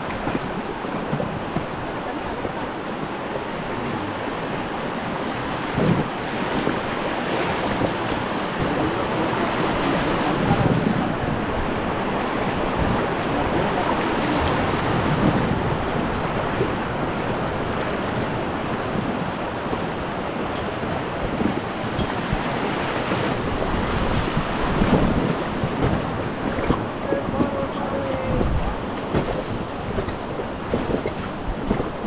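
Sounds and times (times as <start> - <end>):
river water rushing over rapids: 0.0 - 32.0
wind buffeting microphone: 0.0 - 32.0.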